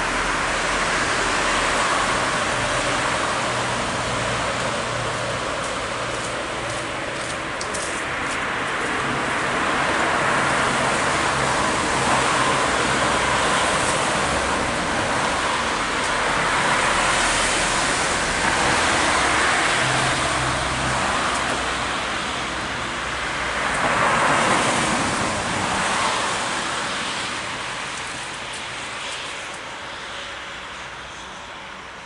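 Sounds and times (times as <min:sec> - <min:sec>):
cars passing: 0:00.0 - 0:32.0.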